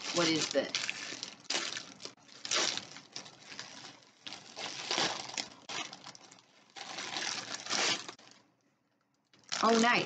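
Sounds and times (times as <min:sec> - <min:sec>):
packaging rustling: 0:00.0 - 0:08.5, 0:09.4 - 0:10.0.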